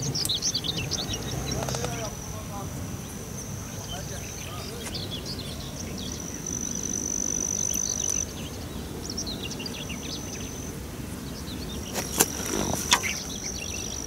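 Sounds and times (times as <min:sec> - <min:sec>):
bird chirps: 0:00.0 - 0:14.0
insect trill: 0:00.0 - 0:14.0.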